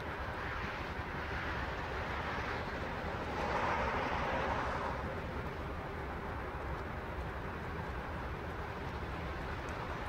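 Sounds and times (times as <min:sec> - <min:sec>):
ship low rumble: 0:00.0 - 0:10.0.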